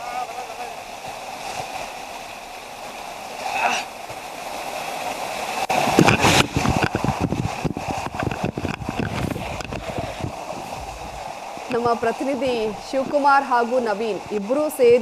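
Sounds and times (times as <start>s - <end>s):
water splashing from wading: 0.0s - 15.0s.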